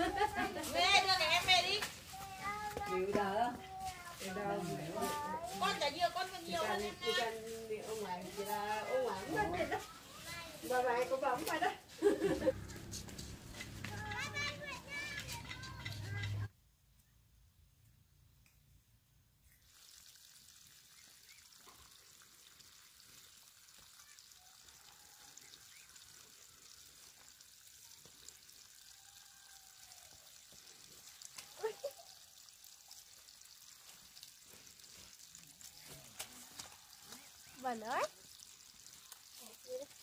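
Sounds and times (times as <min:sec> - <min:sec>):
trickle of running water: 0:00.0 - 0:16.5, 0:19.5 - 0:40.0.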